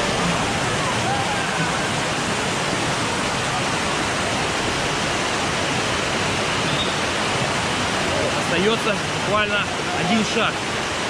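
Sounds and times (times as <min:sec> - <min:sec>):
water cascading over rocks: 0:00.0 - 0:11.0.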